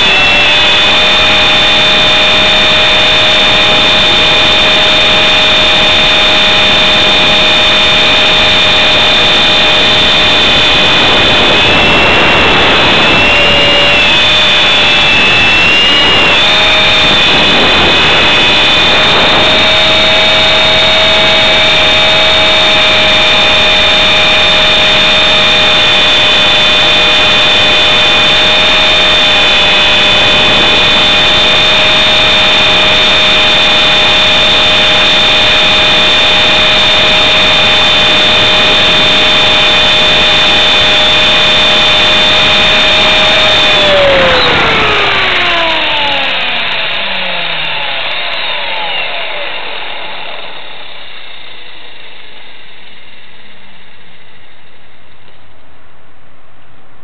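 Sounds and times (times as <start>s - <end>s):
electric helicopter rotor whine: 0.0s - 54.8s.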